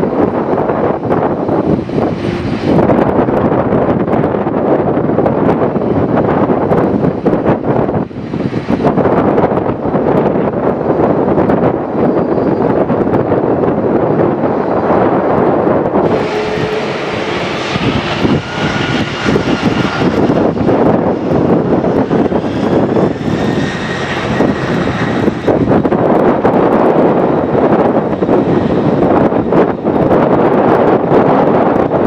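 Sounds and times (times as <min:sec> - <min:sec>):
jet engines at takeoff: 0:00.0 - 0:32.0
wind buffeting microphone: 0:00.0 - 0:32.0.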